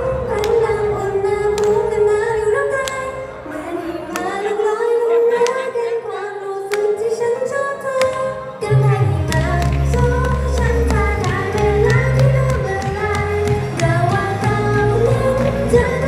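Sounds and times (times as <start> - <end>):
girl group singing in unison: 0.0 - 16.0
pop backing track with beat: 0.0 - 16.0.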